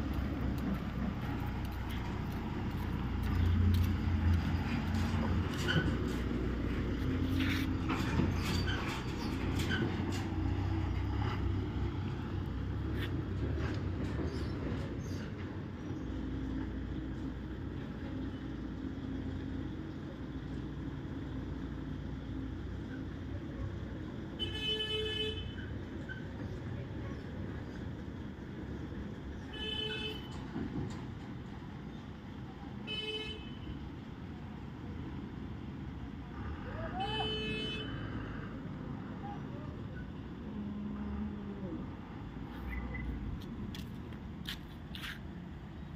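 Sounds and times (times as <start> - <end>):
diesel lorry engine: 0.0 - 45.9.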